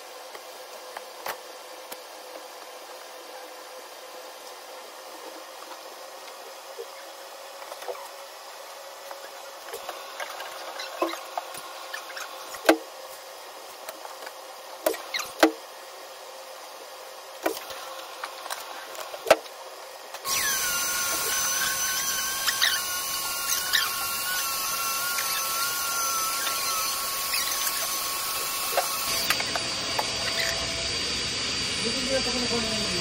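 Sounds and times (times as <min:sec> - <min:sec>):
vacuum cleaner motor whining: 0:00.0 - 0:15.6, 0:16.7 - 0:33.0.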